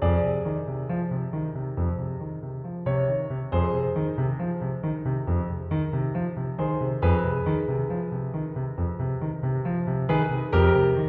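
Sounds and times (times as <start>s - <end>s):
piano playing repeated notes: 0.0s - 11.0s.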